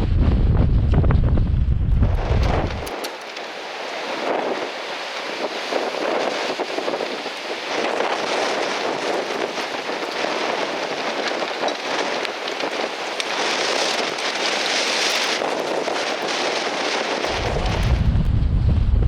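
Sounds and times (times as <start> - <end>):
strong gusty wind: 0.0 - 19.0
wind buffeting on microphone: 0.0 - 19.0
fine crackling patter: 1.9 - 18.3.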